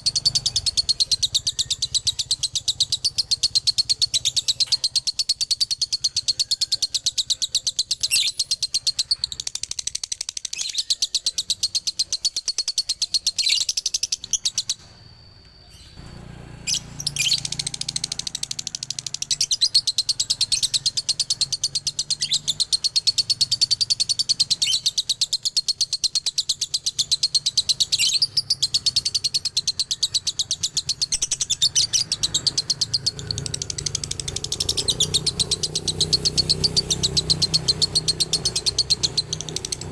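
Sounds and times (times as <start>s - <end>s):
lovebird chattering trill: 0.0s - 15.0s, 15.6s - 39.9s.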